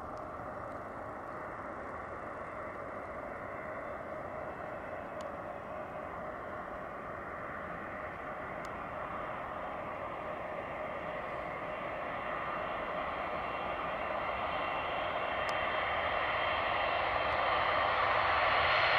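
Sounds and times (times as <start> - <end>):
jet engines rushing whine: 0.0 - 18.9.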